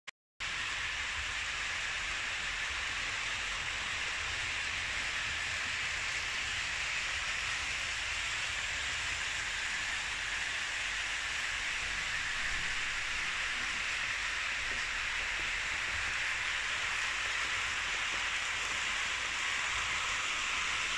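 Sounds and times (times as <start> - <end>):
model train wheels rumbling: 0.4 - 20.9
small electric motors whirring: 0.8 - 20.9.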